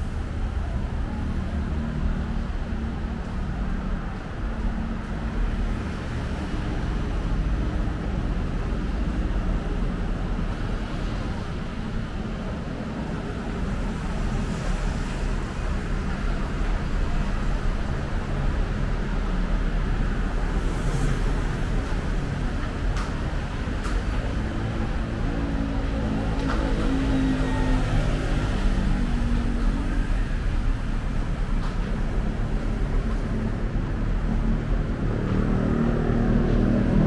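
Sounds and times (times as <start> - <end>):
city road traffic: 0.0 - 37.0.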